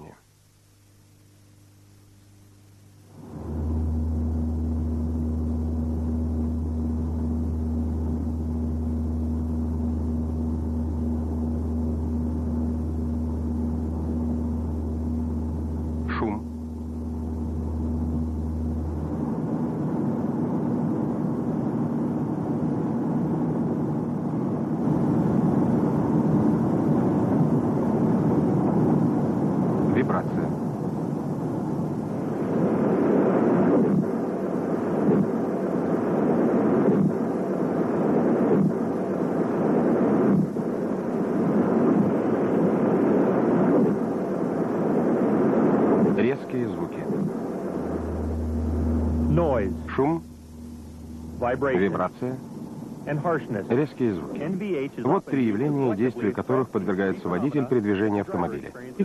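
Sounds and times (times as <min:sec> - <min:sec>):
car driving drone: 0:03.0 - 0:56.4.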